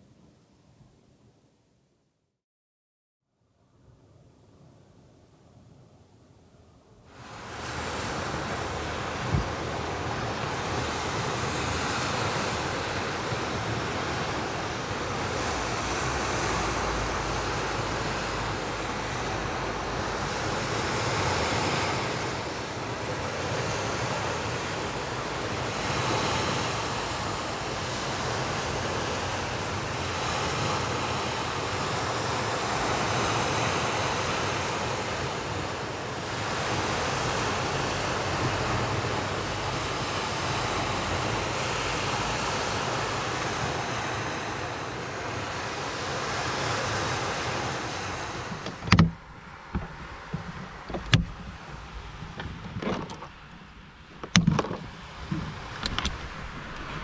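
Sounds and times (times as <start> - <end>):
sea waves washing onto beach: 7.1 - 57.0.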